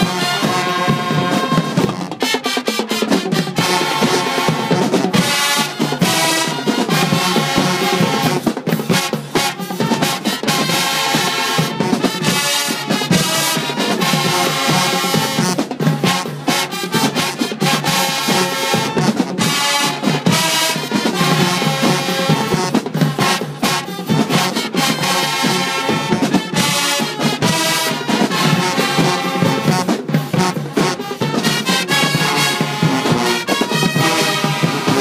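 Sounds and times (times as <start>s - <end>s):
marching band playing: 0.0s - 35.0s.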